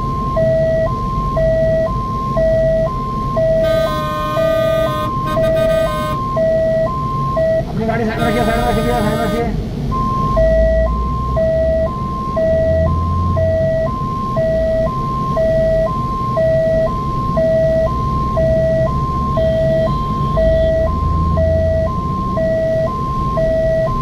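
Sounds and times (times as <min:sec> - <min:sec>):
two-tone siren: 0:00.0 - 0:24.0
vehicle rumble in traffic: 0:00.0 - 0:24.0.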